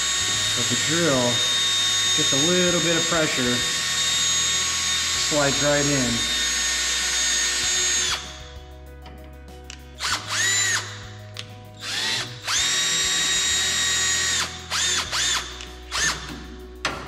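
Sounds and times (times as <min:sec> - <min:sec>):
cordless drill whining: 0:00.0 - 0:08.7, 0:09.7 - 0:16.5.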